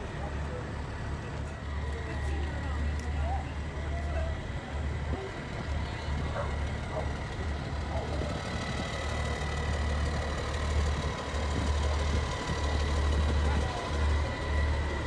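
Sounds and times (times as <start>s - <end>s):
diesel truck engine idling: 0.0s - 15.0s
faint voices: 0.0s - 15.0s.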